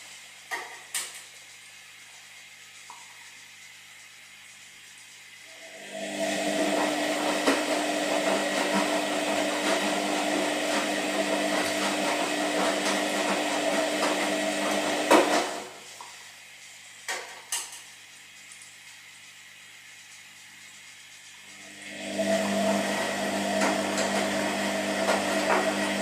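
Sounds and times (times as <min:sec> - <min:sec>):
washing machine running: 0:02.0 - 0:26.0.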